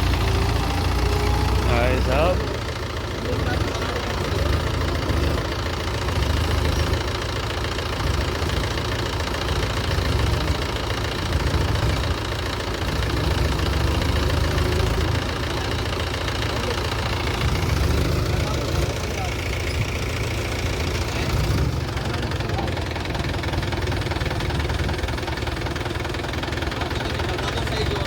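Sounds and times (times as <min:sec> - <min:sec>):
tractor diesel engine droning: 0:00.0 - 0:28.0.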